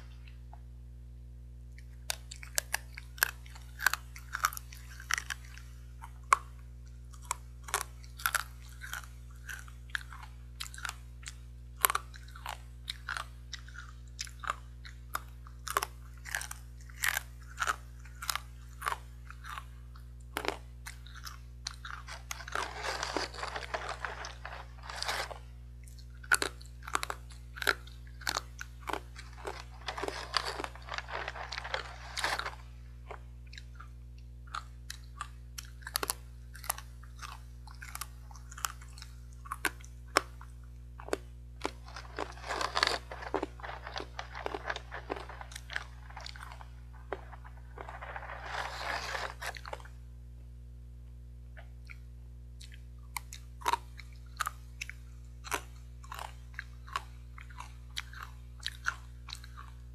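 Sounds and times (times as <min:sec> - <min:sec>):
crunching of fried sticks: 0:01.7 - 0:50.0, 0:51.6 - 0:59.9.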